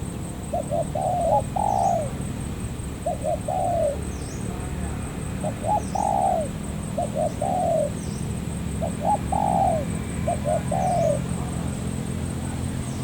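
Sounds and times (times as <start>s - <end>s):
dove cooing: 0.0s - 2.2s, 2.8s - 4.4s, 5.4s - 13.0s.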